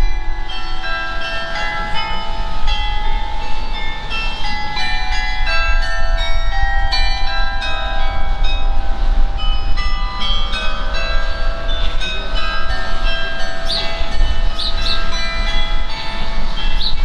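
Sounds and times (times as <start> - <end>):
carillon bells playing tune: 0.0 - 17.0
steady low rumble: 0.0 - 17.0.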